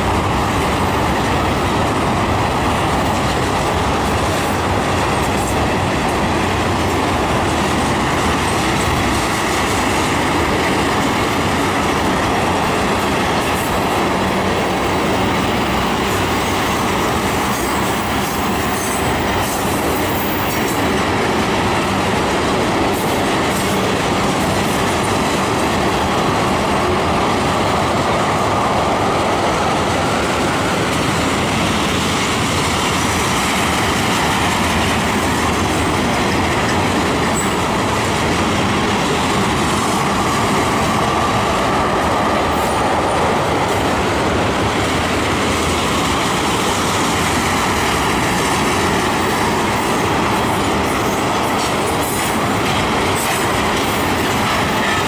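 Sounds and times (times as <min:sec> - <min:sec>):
train cars rolling on rails: 0:00.0 - 0:55.0.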